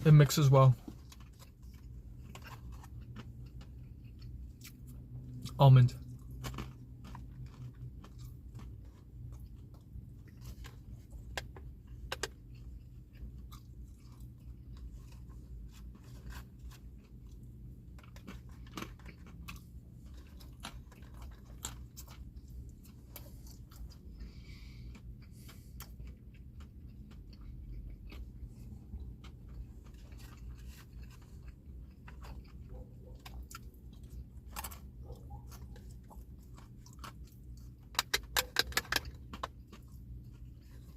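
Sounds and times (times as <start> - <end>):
low steady hum: 0.0 - 40.9
crisp chewing crunches: 0.1 - 40.9.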